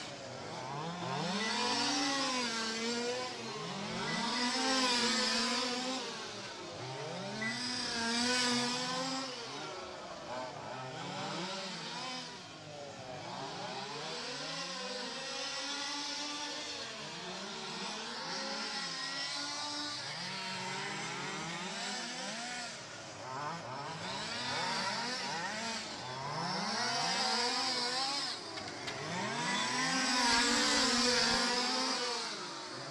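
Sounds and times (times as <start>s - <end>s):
toy truck motors revving: 0.0s - 32.9s.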